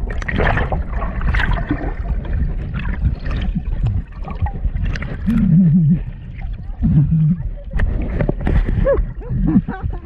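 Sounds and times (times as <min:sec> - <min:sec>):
sea water splashing: 0:00.0 - 0:10.0.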